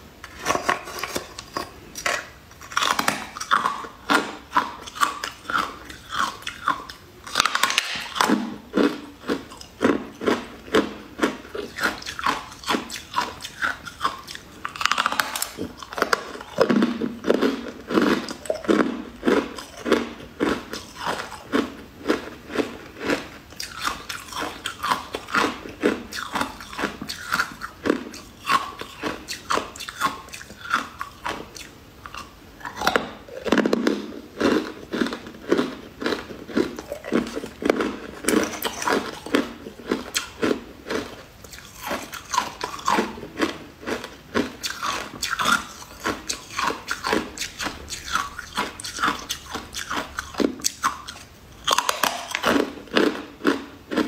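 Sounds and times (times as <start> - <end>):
crunchy biting and chewing: 0.2 - 54.0.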